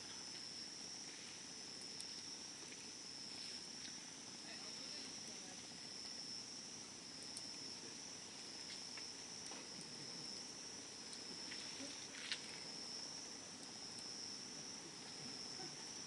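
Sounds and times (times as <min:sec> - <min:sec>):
campfire crackling: 0:00.0 - 0:16.0
high-pitched insect trill: 0:00.0 - 0:16.0.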